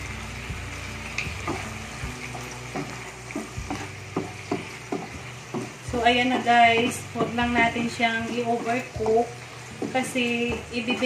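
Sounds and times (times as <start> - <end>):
food sizzling in a frying pan: 0.0 - 11.0
spatula knocking and scraping pan: 1.4 - 11.0.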